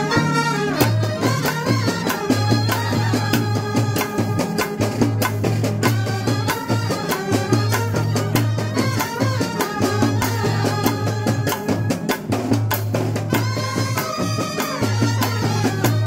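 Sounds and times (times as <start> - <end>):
brass band playing: 0.0 - 16.0
drum strokes: 0.0 - 16.0.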